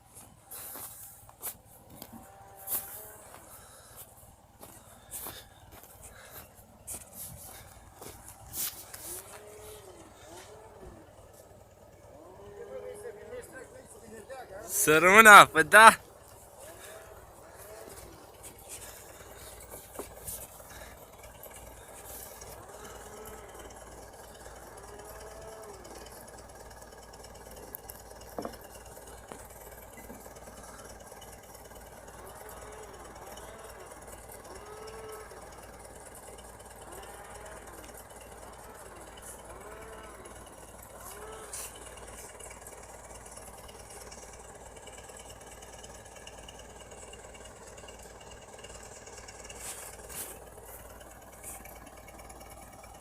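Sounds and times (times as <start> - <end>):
tractor engine humming: 0.0 - 53.0.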